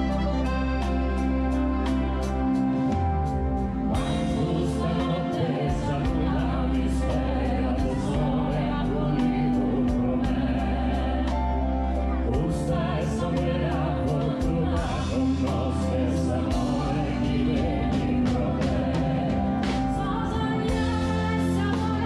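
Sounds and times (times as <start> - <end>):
drums: 0.0 - 22.0
electric guitar: 0.0 - 22.0
man and woman singing duet: 4.0 - 22.0.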